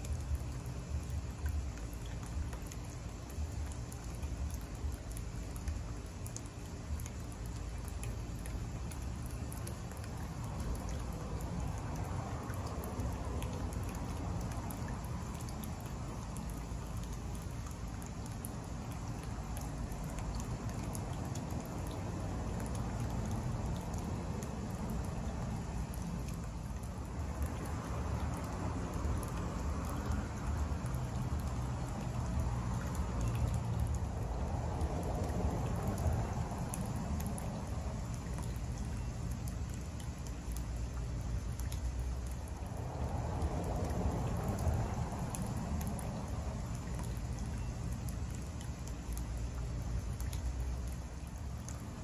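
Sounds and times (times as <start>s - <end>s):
water droplets pattering: 0.0s - 52.0s.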